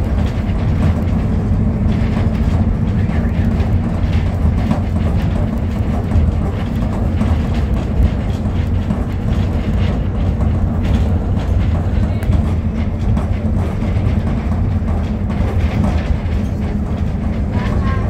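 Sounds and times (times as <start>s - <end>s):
car engine drone: 0.0s - 18.0s
tyres rumbling on asphalt: 0.0s - 18.0s.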